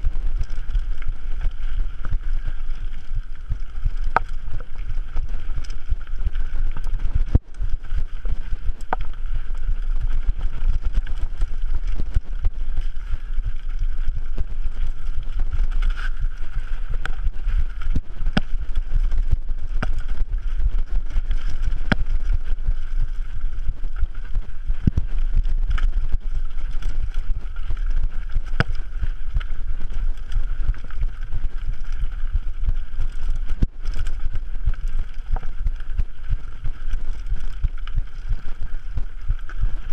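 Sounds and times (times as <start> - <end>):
bike tyre noise: 0.0 - 39.9
wind rumble on microphone: 0.0 - 39.9.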